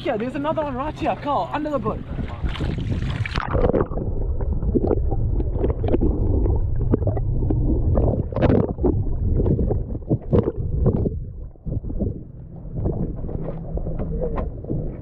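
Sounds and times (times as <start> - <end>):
steady low rumble: 0.0 - 15.0
wind buffeting microphone: 0.0 - 15.0
water slapping against boat: 0.1 - 15.0.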